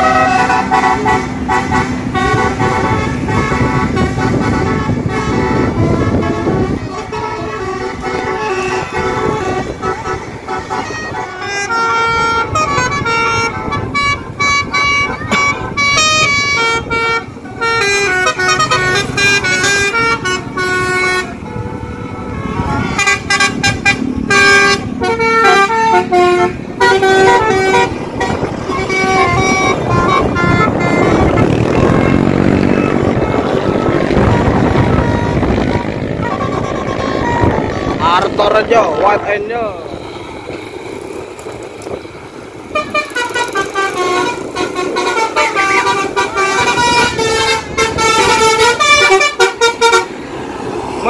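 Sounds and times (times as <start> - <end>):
multi-tone bus horn melody: 0.0 - 38.5, 42.6 - 50.6
engine and traffic noise: 0.0 - 51.0.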